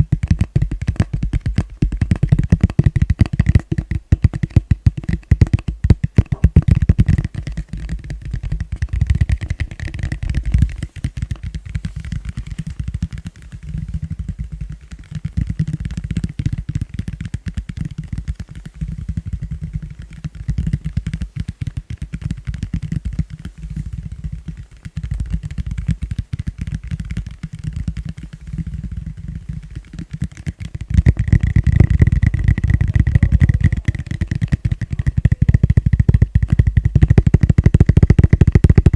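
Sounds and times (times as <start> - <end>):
rapid tapping on plastic bowl: 0.0 - 38.9.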